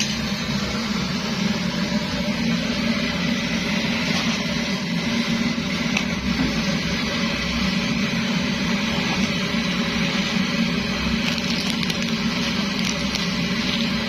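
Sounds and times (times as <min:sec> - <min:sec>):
pressure stove burner hissing: 0:00.0 - 0:14.0.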